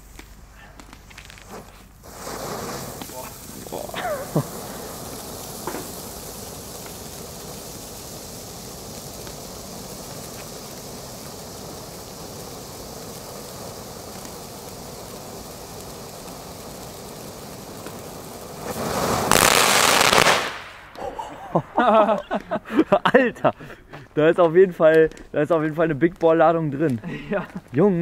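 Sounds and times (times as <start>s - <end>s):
firework fountain hissing: 0.0s - 28.0s.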